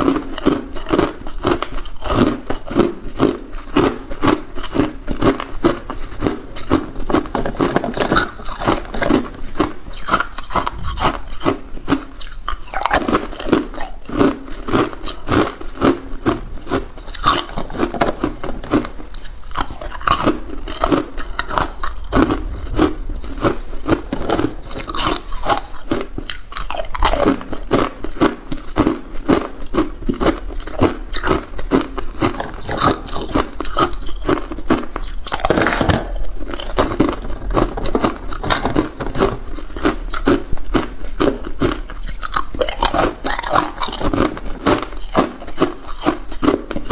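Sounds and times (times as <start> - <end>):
ice cubes crunching: 0.0 - 46.9.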